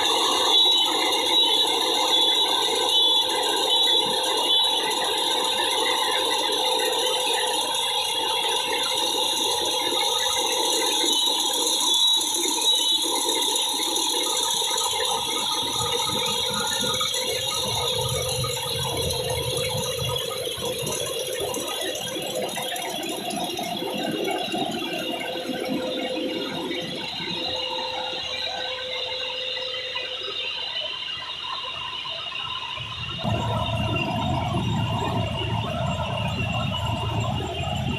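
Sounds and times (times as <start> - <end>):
machine whine: 0.0 - 37.9.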